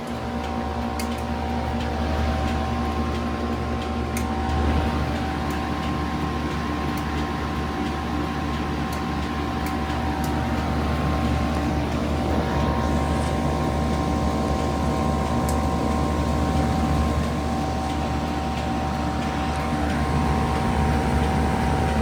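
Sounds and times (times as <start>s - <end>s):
heat pump compressor and fan hum: 0.0s - 22.0s.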